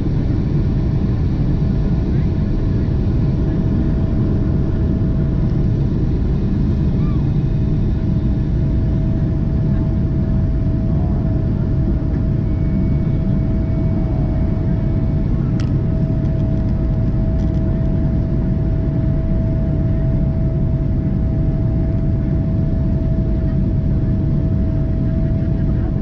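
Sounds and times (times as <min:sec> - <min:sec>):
aircraft cabin engine rumble: 0:00.0 - 0:26.0.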